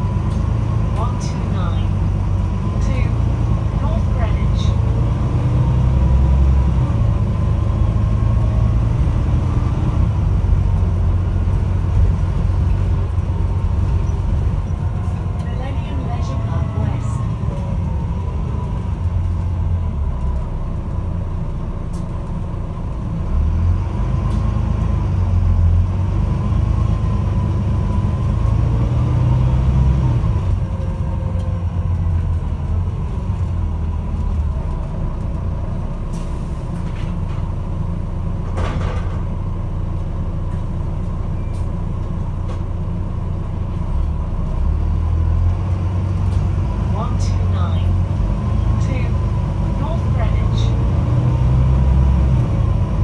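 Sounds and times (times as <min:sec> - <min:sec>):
bus diesel engine rumble: 0:00.0 - 0:53.0.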